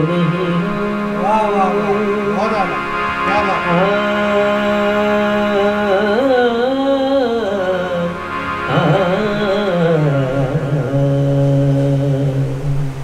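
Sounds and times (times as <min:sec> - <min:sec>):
man singing held notes: 0:00.0 - 0:12.8
harmonium: 0:00.0 - 0:13.0.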